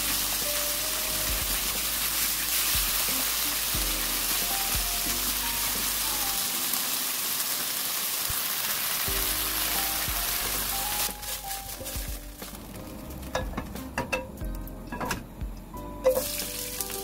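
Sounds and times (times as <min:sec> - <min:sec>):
beef sizzling in oil: 0:00.0 - 0:13.9, 0:16.0 - 0:17.0
background music: 0:00.0 - 0:17.0.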